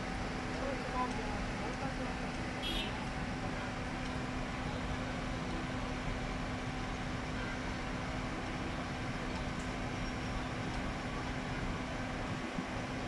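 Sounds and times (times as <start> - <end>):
urban street background noise: 0.0 - 13.0.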